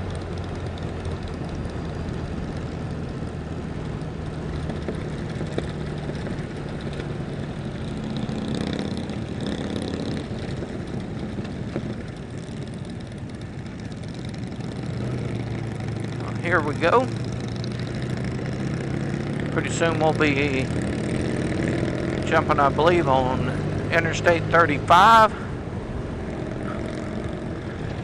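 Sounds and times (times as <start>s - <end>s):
motorcycle engines humming: 0.0s - 28.0s
road and wind noise: 0.0s - 28.0s.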